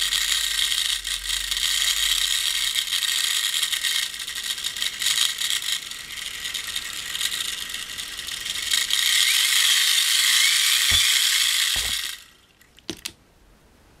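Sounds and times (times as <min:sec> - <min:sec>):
hand-cranked generator whirring: 0:00.0 - 0:12.3.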